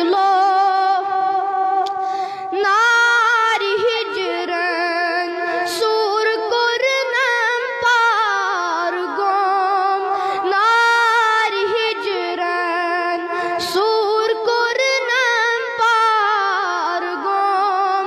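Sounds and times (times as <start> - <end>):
boy singing into a microphone: 0.0 - 18.0.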